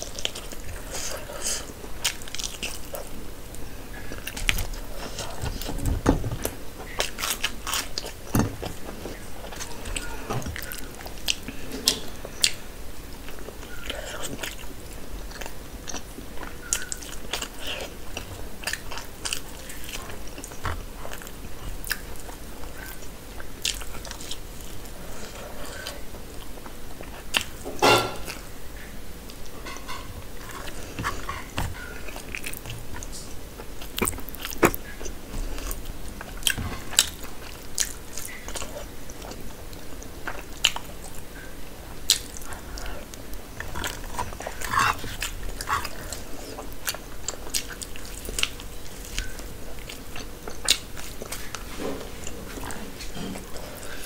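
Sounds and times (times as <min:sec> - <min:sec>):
chewing and biting: 0:00.0 - 0:03.2, 0:04.0 - 0:12.6, 0:13.3 - 0:27.6, 0:30.4 - 0:54.0.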